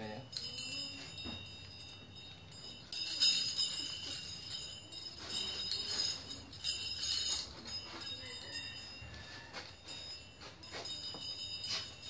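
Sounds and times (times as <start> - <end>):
metal chain clinking and jingling: 0.0 - 12.0
metal sticks ringing: 0.0 - 12.0.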